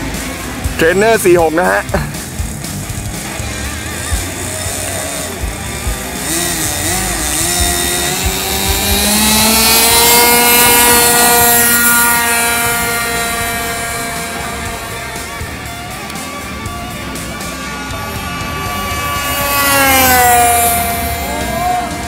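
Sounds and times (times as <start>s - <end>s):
model plane engine: 0.0s - 22.0s.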